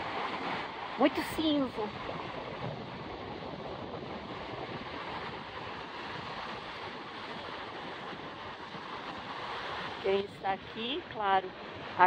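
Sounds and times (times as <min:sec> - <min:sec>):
ocean surf breaking: 0:00.0 - 0:12.0
wind on microphone: 0:00.0 - 0:12.0.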